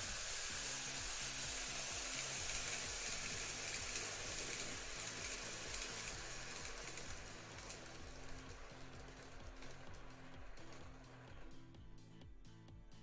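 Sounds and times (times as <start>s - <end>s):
model trains running on track: 0.0s - 11.5s.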